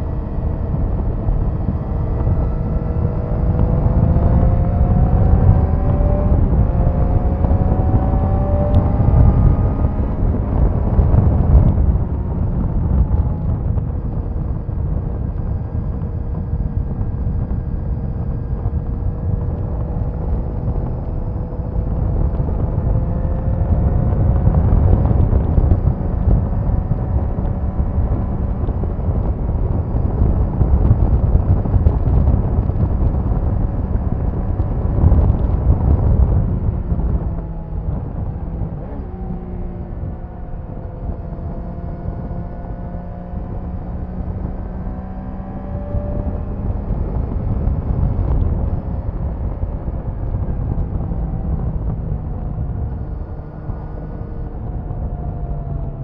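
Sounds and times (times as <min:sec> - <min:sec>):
motorcycle engine while riding: 0:00.0 - 0:56.0
wind noise on microphone: 0:00.0 - 0:56.0.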